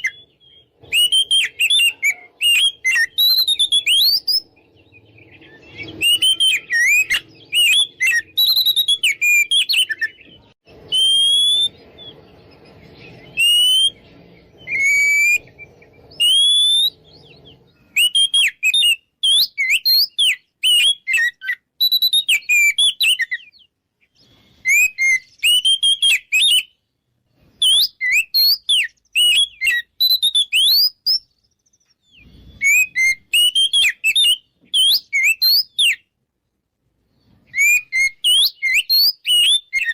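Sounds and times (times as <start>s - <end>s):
bird singing whistled phrases: 0.0s - 26.8s, 27.5s - 36.1s, 37.4s - 39.9s.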